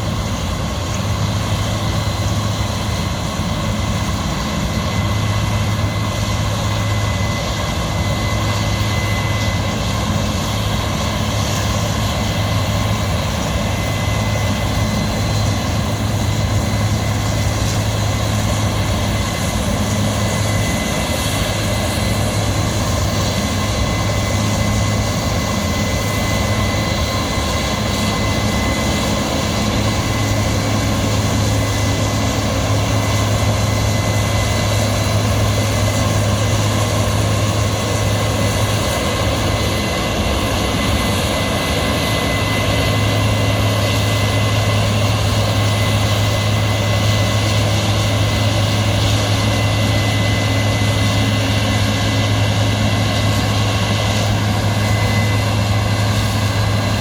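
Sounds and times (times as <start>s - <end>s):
low diesel engine drone: 0.0s - 57.0s.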